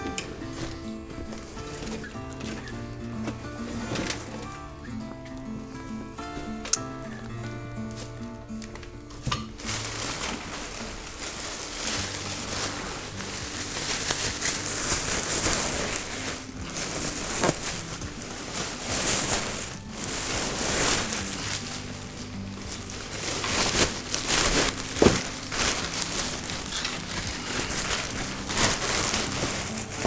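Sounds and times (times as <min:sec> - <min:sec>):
carpet rustling and tearing: 0:00.0 - 0:30.0
faint background music: 0:00.0 - 0:30.0.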